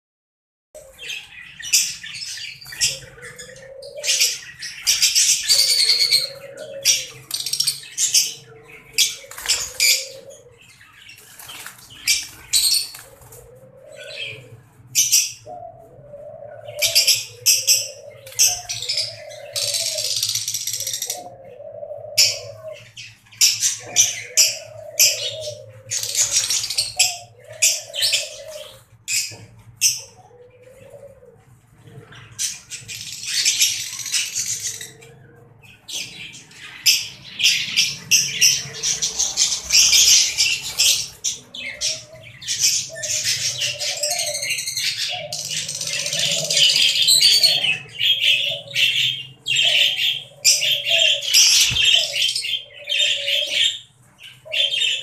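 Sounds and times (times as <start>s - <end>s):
lovebirds chirping and squeaking: 0.8s - 55.0s.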